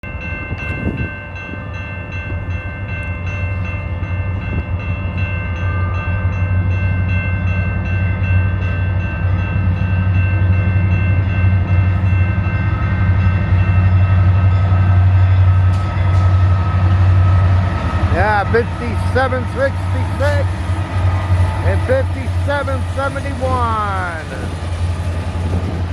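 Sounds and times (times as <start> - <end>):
diesel locomotive rumble: 0.1 - 25.9.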